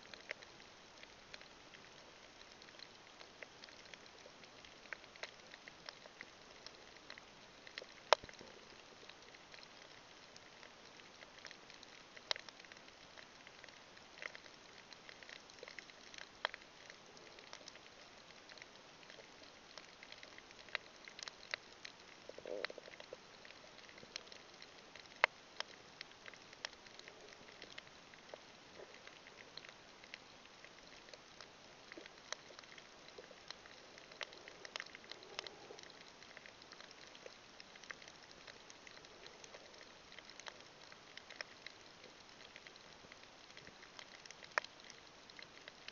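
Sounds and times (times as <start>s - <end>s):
sharp underwater clicks and crackles: 0.0s - 45.9s.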